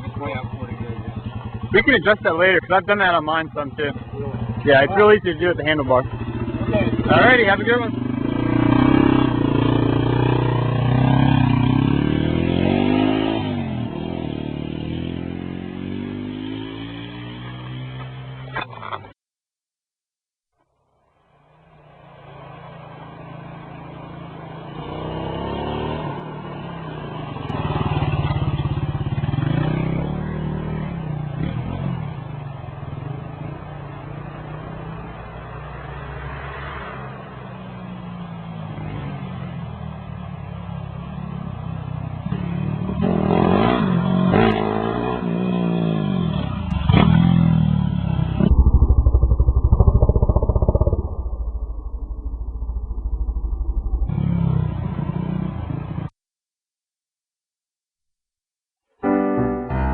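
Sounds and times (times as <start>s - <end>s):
motorcycle engines revving: 0.0s - 18.8s, 21.9s - 56.1s
close motorcycle engine: 0.0s - 19.2s, 22.5s - 35.5s, 37.3s - 56.1s.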